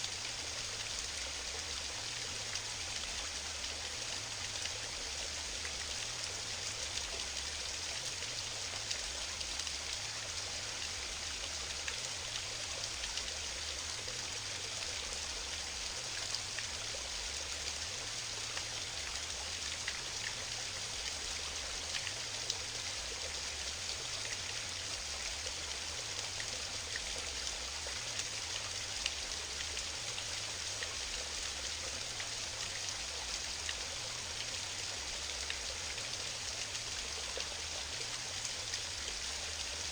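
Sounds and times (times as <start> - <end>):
water drips and splashes: 0.0 - 39.9.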